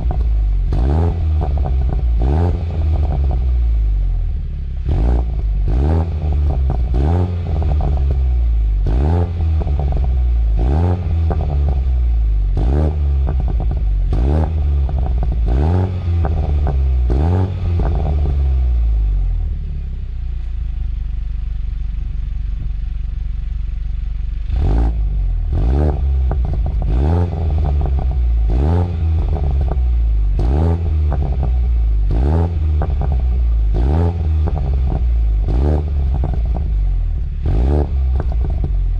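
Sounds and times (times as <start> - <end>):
car engine revving and idling: 0.0 - 38.9.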